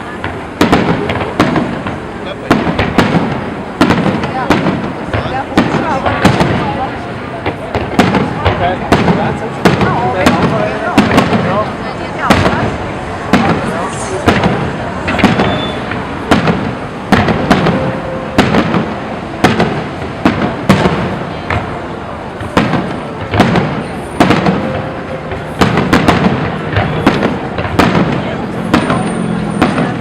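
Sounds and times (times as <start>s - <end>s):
fireworks bursting with echo: 0.0s - 30.0s.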